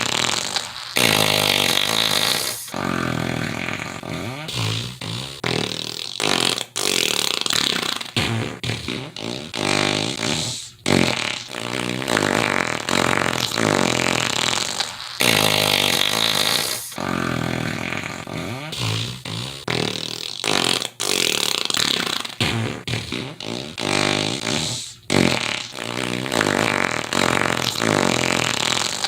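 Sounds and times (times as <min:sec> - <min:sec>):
buzzy fart sound effects: 0:00.0 - 0:29.0
hissing fart: 0:00.0 - 0:29.0.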